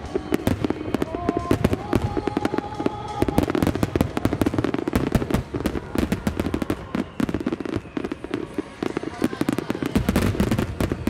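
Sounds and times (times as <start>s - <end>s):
fireworks bangs and crackle: 0.0s - 11.0s
fireworks rumble: 0.0s - 11.0s.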